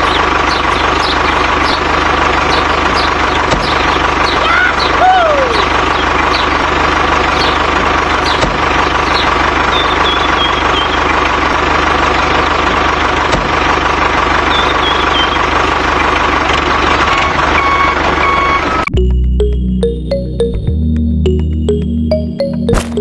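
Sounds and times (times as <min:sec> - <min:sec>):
small engine running with whine: 0:00.0 - 0:18.9.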